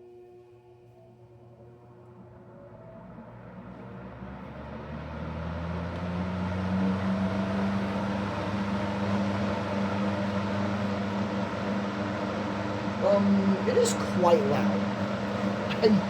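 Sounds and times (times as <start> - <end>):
box fan motor hum and whoosh: 2.2 - 16.0.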